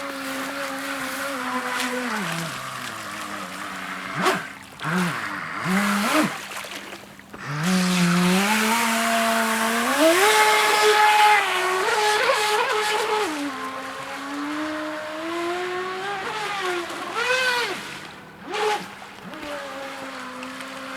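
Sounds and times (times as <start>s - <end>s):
model boat motor whining: 0.0s - 20.9s.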